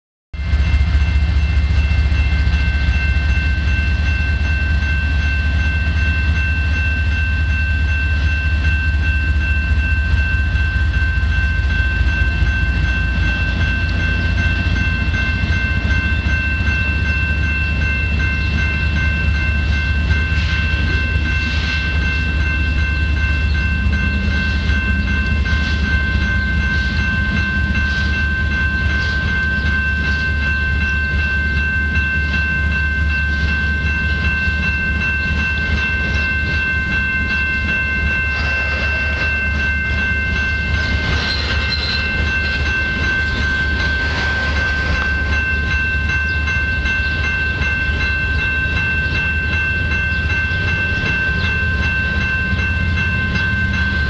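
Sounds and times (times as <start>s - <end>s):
freight train rumbling: 0.4s - 54.0s
high whine: 0.4s - 54.0s.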